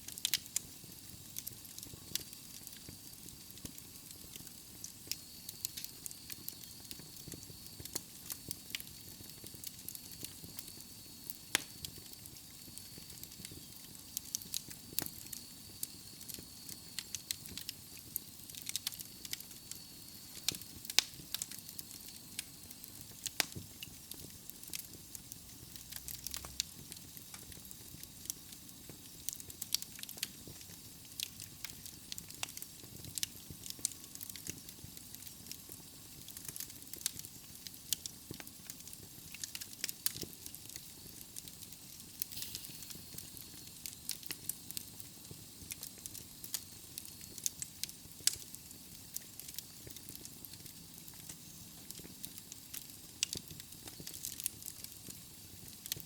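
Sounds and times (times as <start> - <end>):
soft fire hiss: 0.0 - 56.0
wood fire crackling and popping: 0.0 - 56.0.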